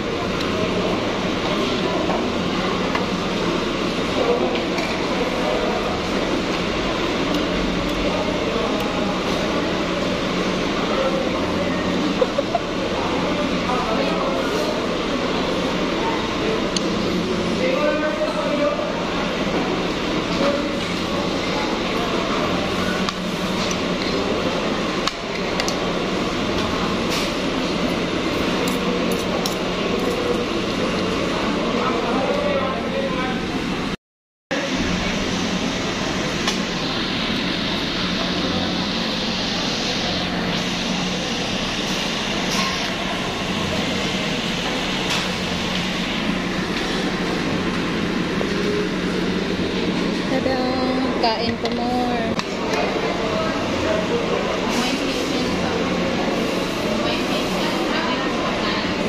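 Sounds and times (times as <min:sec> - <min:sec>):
murmur of voices: 0:00.0 - 0:34.0, 0:34.6 - 0:59.0
ventilation hum: 0:00.0 - 0:59.0.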